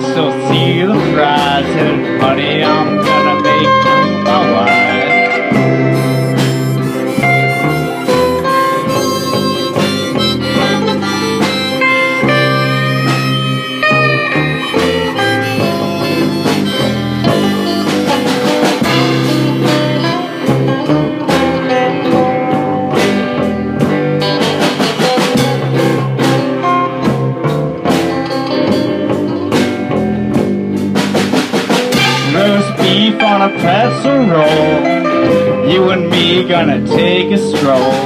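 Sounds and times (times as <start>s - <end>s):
band playing instrumental: 0.0s - 38.0s
drum kit beat: 0.0s - 38.0s.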